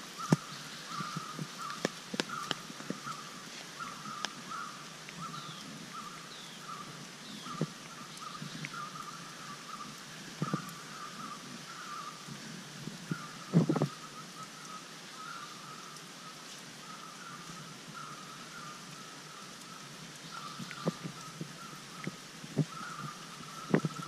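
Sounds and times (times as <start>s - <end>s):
rough animal calls: 0.0s - 12.3s, 13.0s - 15.9s, 16.8s - 24.0s.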